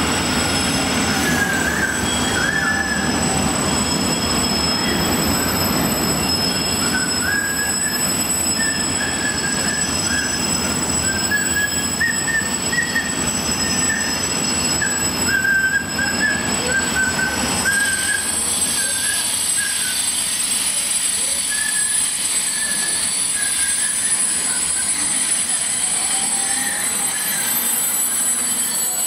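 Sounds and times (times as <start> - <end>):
train wheels squealing: 0.0 - 29.0.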